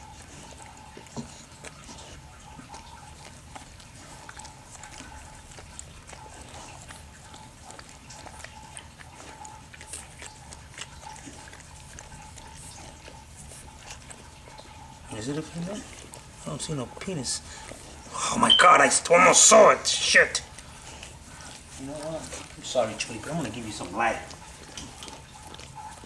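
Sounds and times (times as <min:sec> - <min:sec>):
dog licking puppy: 0:00.0 - 0:26.0.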